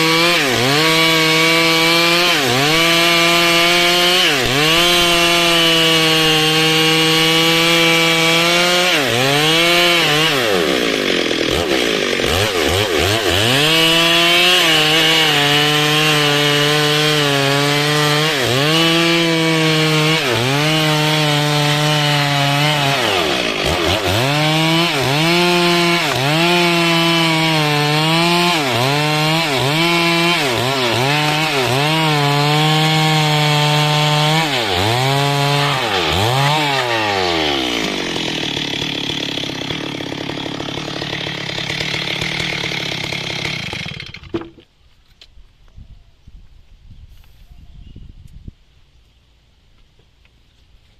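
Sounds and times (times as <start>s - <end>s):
chainsaw cutting wood: 0.0s - 44.7s.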